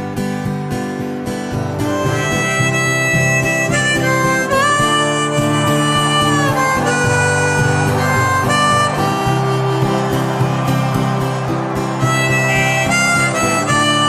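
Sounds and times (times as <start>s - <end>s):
acoustic guitar accompaniment: 0.0s - 14.0s
harmonica melody with bent notes: 0.5s - 14.0s.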